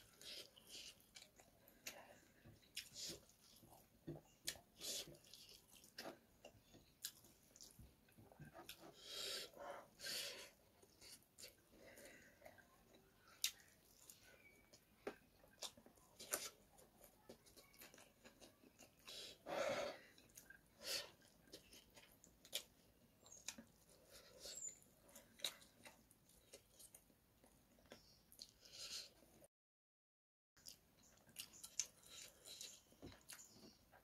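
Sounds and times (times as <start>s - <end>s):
person chewing food: 0.0s - 29.5s, 30.6s - 34.0s.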